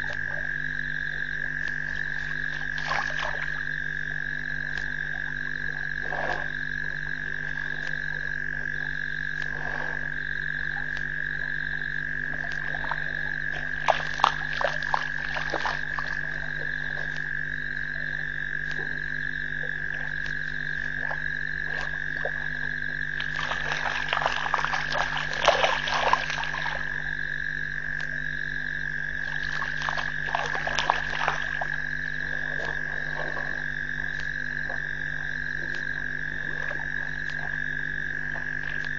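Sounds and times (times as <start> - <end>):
frog chirp: 0.0 - 38.9
frogs trilling: 0.0 - 38.9.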